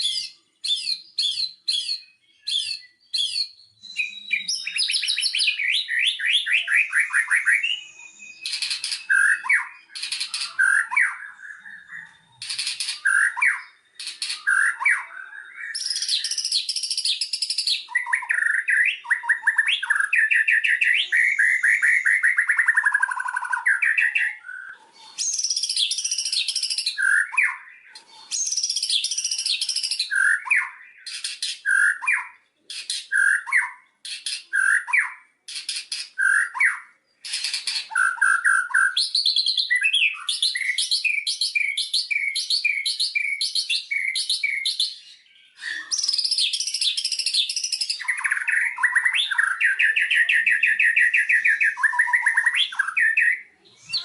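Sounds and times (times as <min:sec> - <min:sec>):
songbird singing trills: 0:00.0 - 0:54.0.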